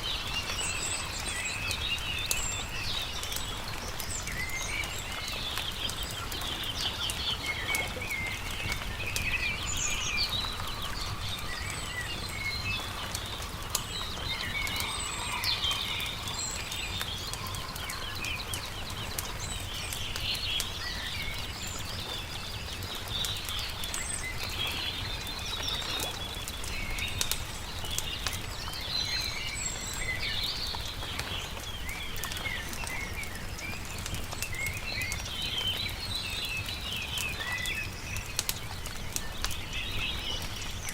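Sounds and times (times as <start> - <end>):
campfire popping and crackling: 0.0 - 40.9
songbirds chirping and singing: 0.0 - 40.9.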